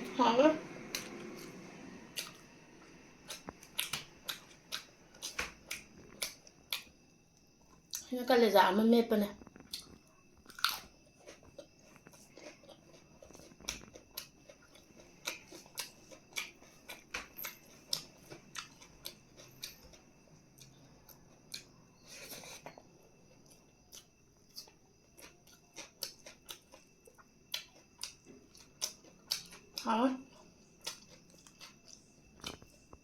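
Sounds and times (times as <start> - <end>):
chewing and biting: 2.2 - 6.9, 9.4 - 22.8, 23.4 - 32.8.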